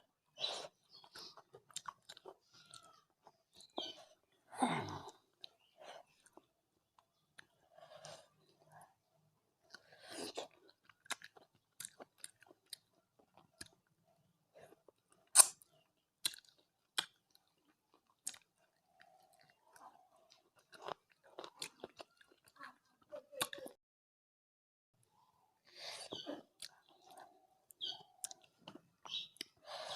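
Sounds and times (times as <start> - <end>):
person chewing food: 0.3 - 23.7, 25.0 - 29.9.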